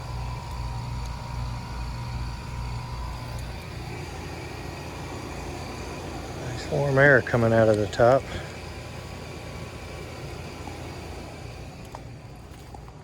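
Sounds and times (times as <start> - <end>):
compressor hum: 0.0 - 13.0
condenser fan blowing: 0.0 - 13.0.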